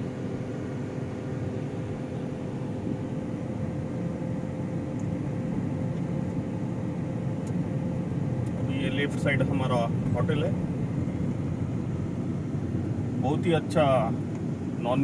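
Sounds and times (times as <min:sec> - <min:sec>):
car engine and road drone: 0:00.0 - 0:15.0
faint hum: 0:00.0 - 0:15.0.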